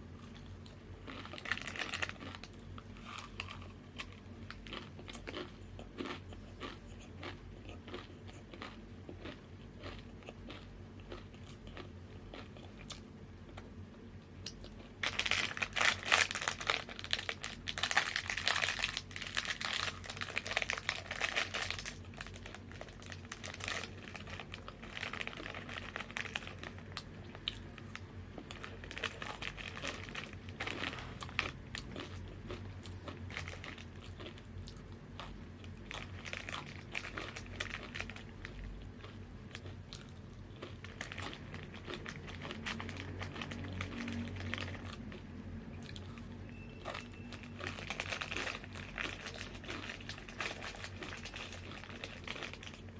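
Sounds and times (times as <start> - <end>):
chips being chewed: 0.2 - 52.9.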